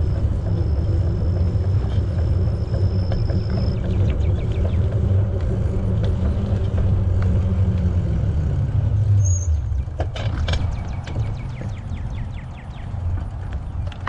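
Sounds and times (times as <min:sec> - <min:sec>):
bicycle rolling noise: 0:00.0 - 0:14.0
wind rumble on microphone: 0:00.0 - 0:14.0.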